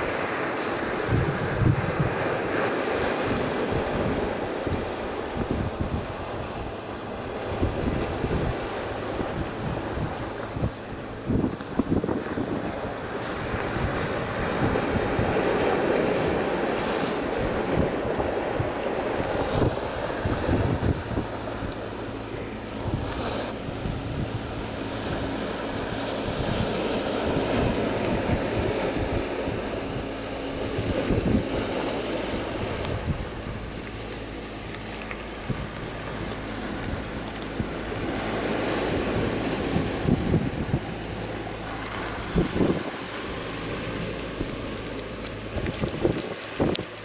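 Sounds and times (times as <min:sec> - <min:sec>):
waves washing over pebbles: 0:00.0 - 0:47.0
wind buffeting microphone: 0:00.0 - 0:47.0.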